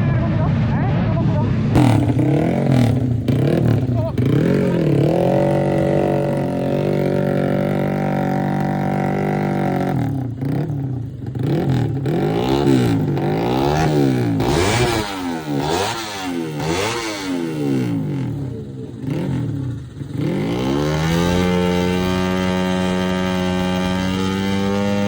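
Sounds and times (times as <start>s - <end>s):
motorcycle engine revving: 1.4s - 25.0s.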